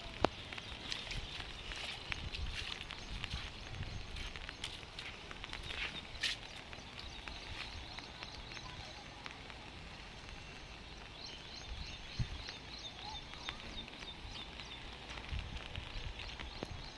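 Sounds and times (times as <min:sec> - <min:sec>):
steady hiss: 0:00.0 - 0:16.9.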